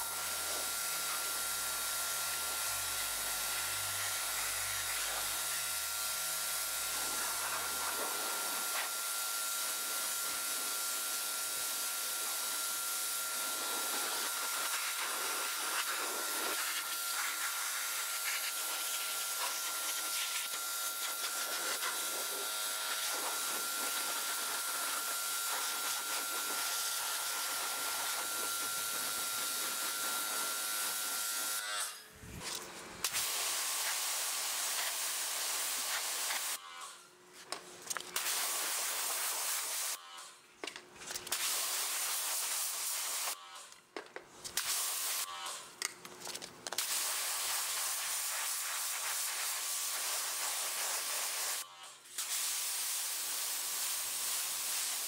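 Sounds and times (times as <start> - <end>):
pressure washer whine: 0.0 - 36.6, 37.9 - 40.3, 46.8 - 55.0
pressure washer spraying: 2.3 - 31.6, 33.0 - 36.6, 38.2 - 40.0, 41.3 - 43.4, 44.6 - 45.3, 46.8 - 51.6, 52.2 - 55.0.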